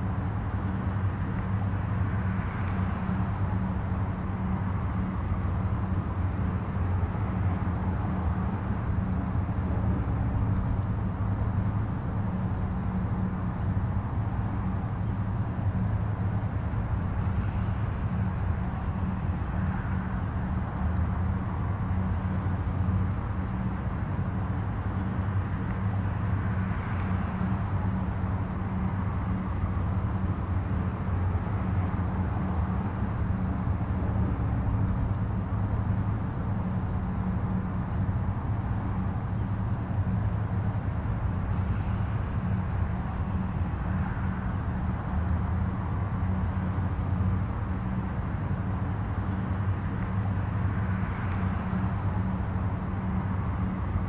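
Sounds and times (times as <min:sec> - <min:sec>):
distant highway traffic rumble: 0:00.0 - 0:54.0.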